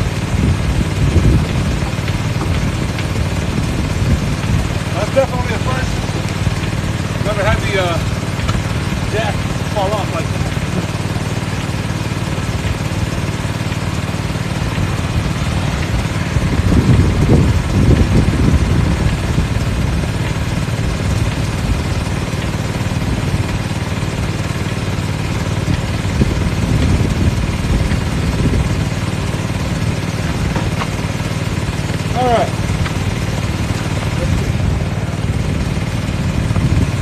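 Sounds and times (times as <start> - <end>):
air compressor running: 0.0 - 37.0.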